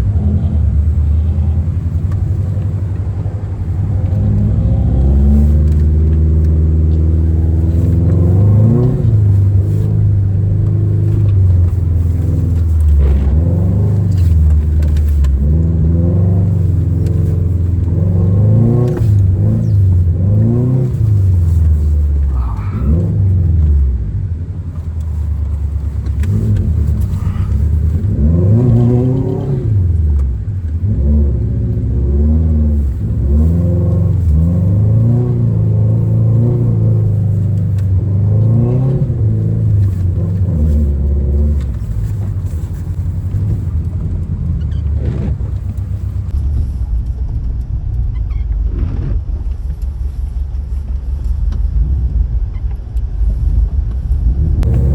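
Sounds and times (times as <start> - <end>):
car engine revving: 0.0 - 46.8, 48.5 - 54.9.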